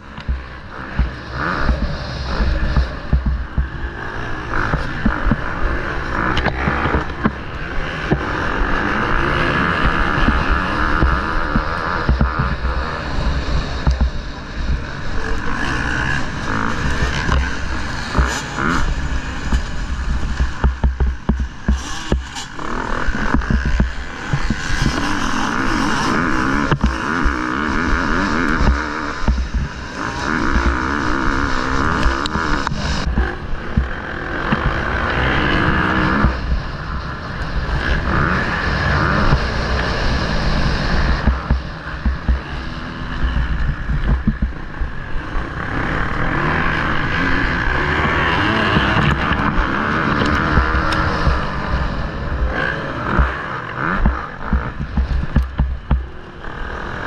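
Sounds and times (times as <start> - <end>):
motocross bike engine revving: 0.0 - 57.0
wind rushing over microphone: 0.0 - 57.0.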